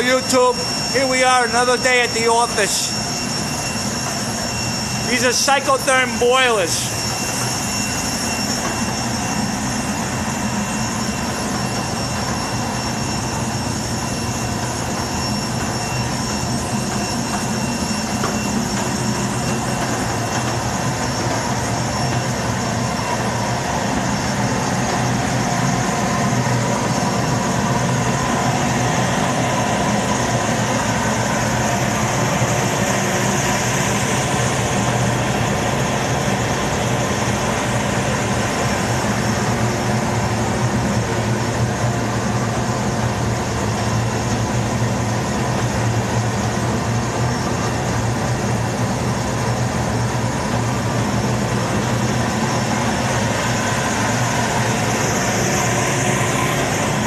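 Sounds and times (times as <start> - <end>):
boilers roaring: 0.0 - 57.0
high whine: 0.0 - 57.0.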